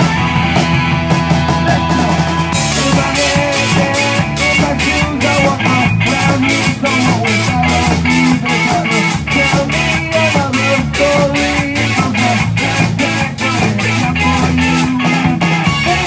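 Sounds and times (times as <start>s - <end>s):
drum beat: 0.0s - 16.0s
electric guitars: 0.0s - 16.0s.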